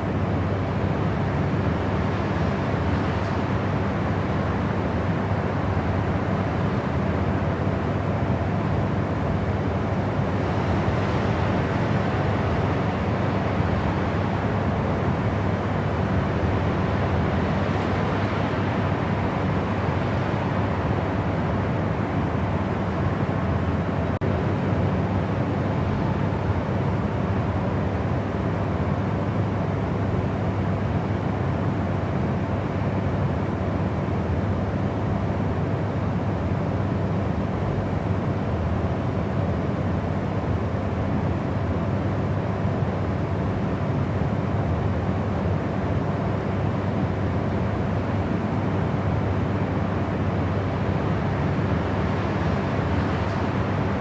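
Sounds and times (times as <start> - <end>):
white noise: 0.0 - 54.0.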